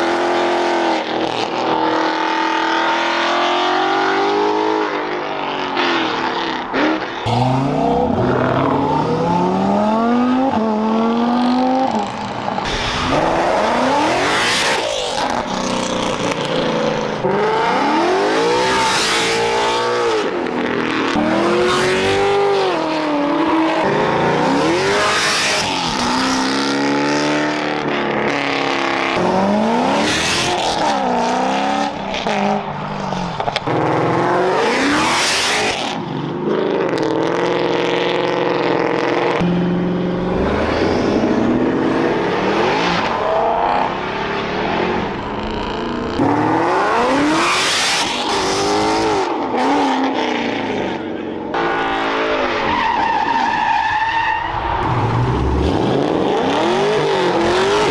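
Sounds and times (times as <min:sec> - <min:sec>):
car engine revving: 0:05.7 - 0:36.0, 0:36.8 - 0:53.0, 0:53.8 - 0:57.9.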